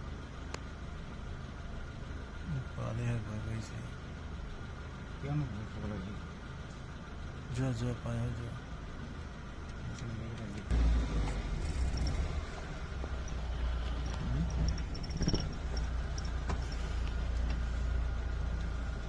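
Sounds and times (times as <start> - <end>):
car engine rumble from inside cabin: 0.0 - 19.0.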